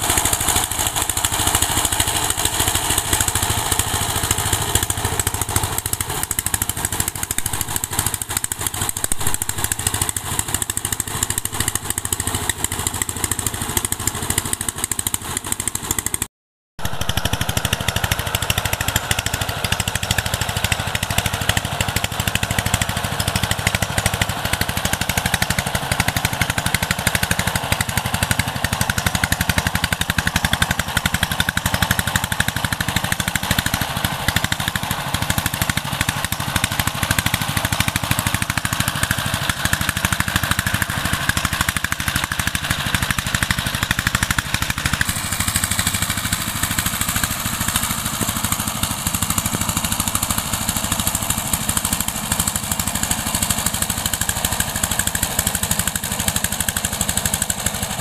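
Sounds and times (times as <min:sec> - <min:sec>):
diesel engine chugging: 0:00.0 - 0:58.0.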